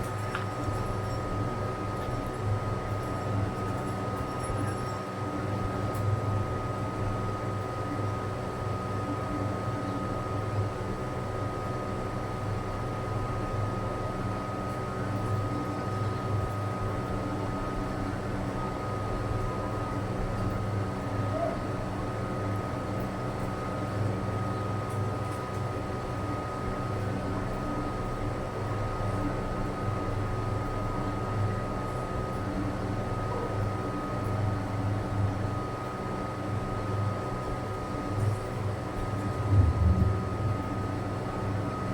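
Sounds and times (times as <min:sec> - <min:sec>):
mechanical hum: 0:00.0 - 0:41.9.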